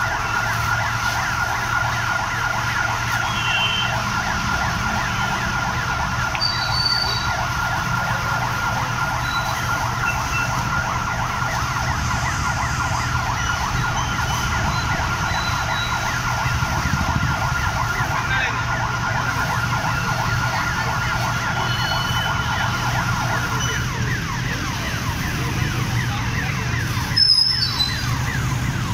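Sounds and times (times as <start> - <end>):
fire engine siren: 0.0 - 28.9.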